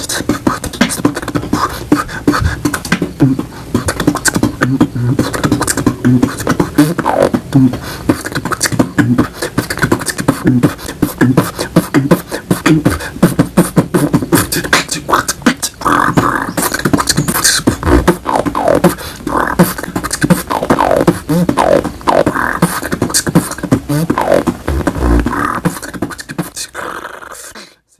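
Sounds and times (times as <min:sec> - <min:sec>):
beatboxing percussive clicks: 0:00.0 - 0:27.9
buzzing vocal tones: 0:00.0 - 0:27.9.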